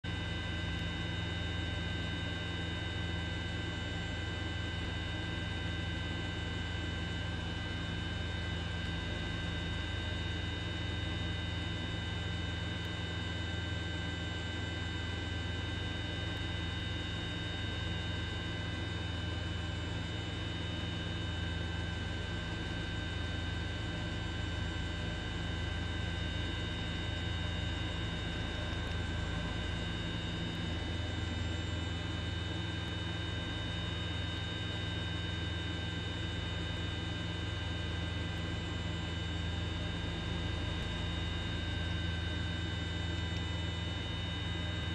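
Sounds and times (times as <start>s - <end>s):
helicopter drone from on board: 0.1s - 44.9s.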